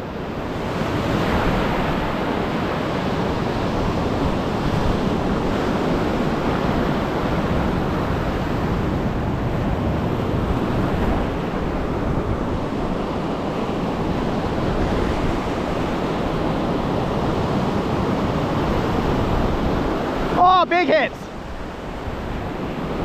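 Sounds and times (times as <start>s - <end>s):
wind rumbling on microphone: 0.0s - 20.4s, 21.2s - 23.0s
ocean surf breaking on sand: 0.0s - 23.0s.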